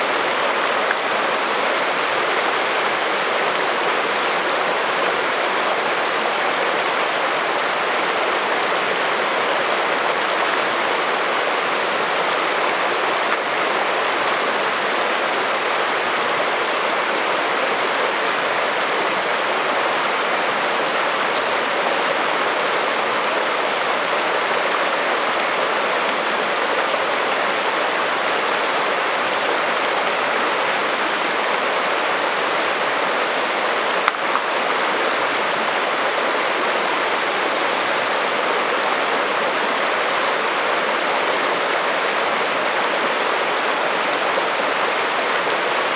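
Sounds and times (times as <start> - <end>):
creek rushing over rocks: 0.0 - 45.9.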